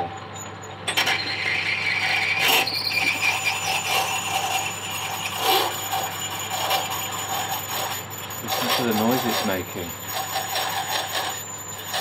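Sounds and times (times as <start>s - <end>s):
lathe tool scraping metal: 0.3s - 12.0s.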